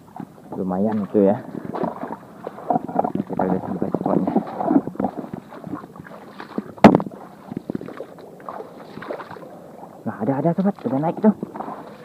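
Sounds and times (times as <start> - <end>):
wading through water and branches: 0.0 - 12.0.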